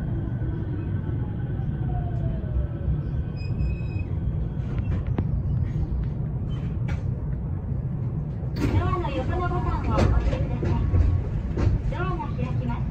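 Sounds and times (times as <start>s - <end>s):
low train rumble: 0.0s - 12.9s.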